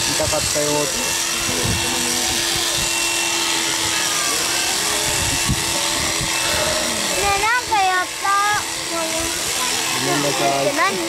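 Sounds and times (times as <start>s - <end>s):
electric sheep shears humming: 0.0s - 11.0s.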